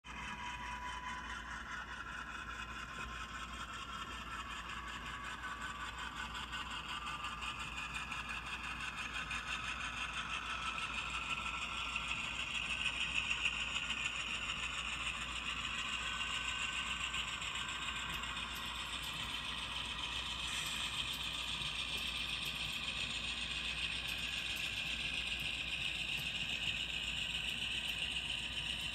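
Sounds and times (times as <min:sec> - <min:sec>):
model train whining and clicking: 0:00.1 - 0:28.9.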